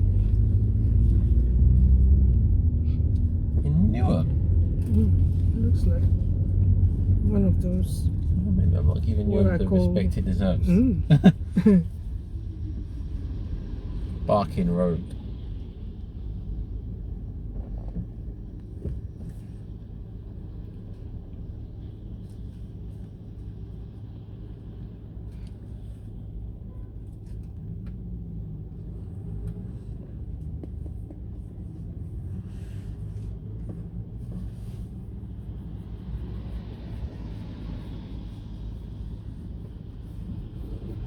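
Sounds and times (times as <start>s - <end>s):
car road rumble from inside: 0.0s - 41.0s.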